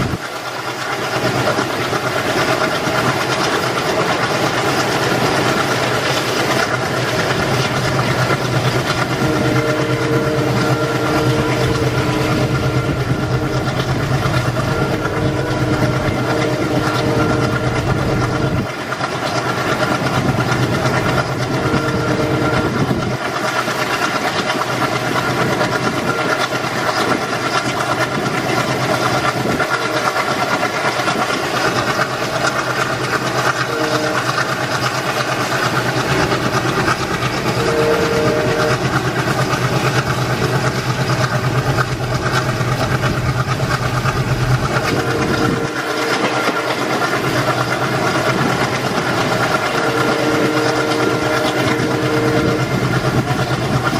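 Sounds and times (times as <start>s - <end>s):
train wheel and track noise: 0.0s - 53.9s.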